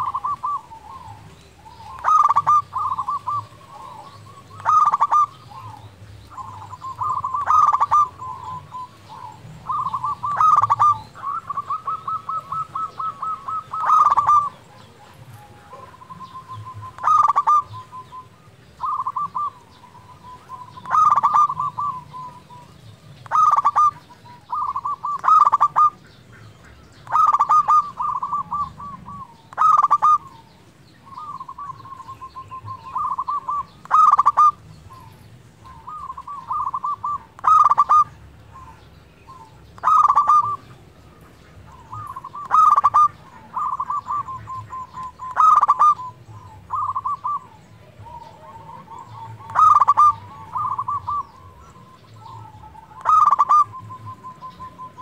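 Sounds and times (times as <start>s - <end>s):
dove trilled cooing: 0.0s - 55.0s.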